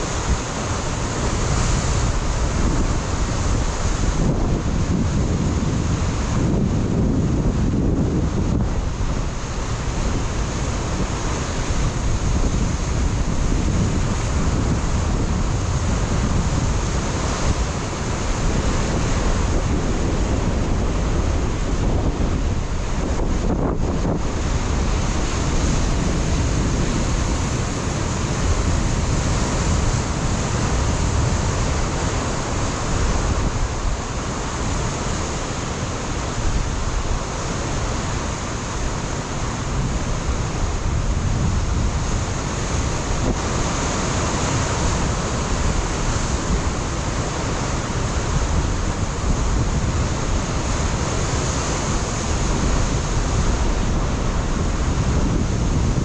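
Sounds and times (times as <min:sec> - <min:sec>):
ocean surf breaking on rocks: 0:00.0 - 0:56.0
wind buffeting microphone: 0:00.0 - 0:56.0.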